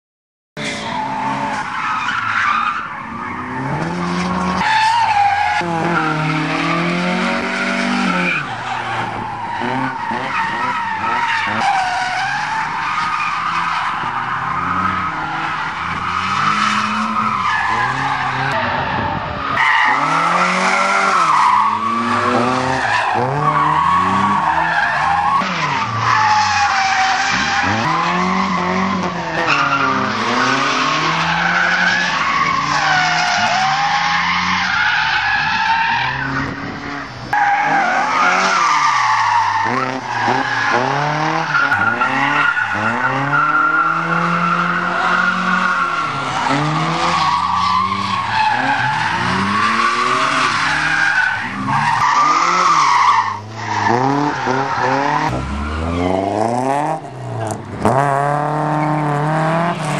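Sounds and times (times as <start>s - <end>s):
car engines revving: 0.6s - 59.9s.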